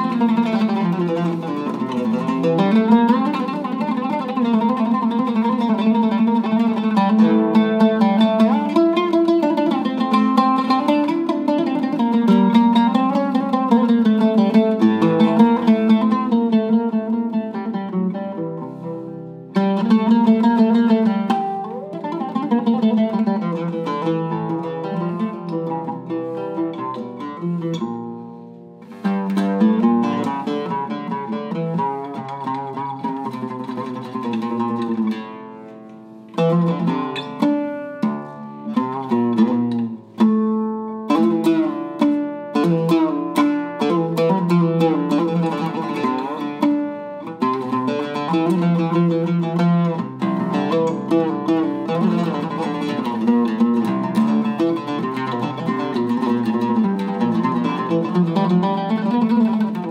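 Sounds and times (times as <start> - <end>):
oud plucked notes: 0.0 - 59.9.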